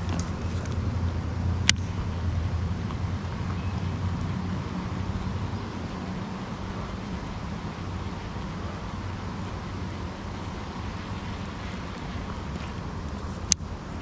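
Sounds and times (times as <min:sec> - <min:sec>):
low steady hum: 0:00.0 - 0:14.0
rain falling on a lake: 0:00.0 - 0:14.0.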